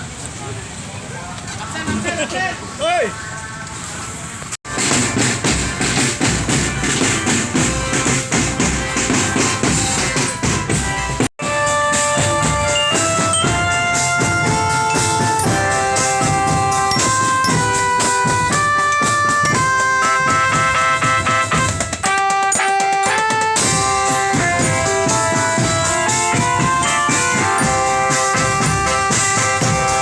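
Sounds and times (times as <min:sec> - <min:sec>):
fast marching drums: 0:04.7 - 0:30.0
held melody notes: 0:04.7 - 0:30.0.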